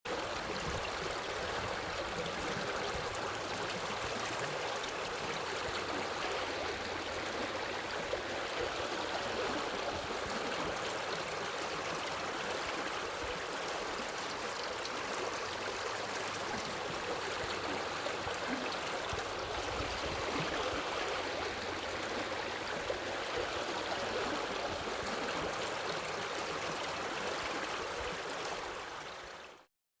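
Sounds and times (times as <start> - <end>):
flowing water rushing: 0.1 - 29.7.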